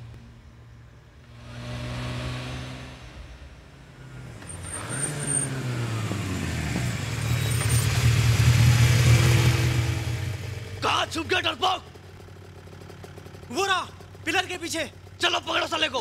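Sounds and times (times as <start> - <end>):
vehicle engines revving: 0.0 - 14.2.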